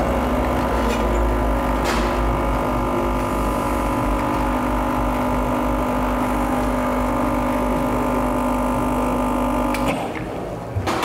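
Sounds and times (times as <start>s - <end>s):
espresso machine pump humming: 0.0s - 10.0s.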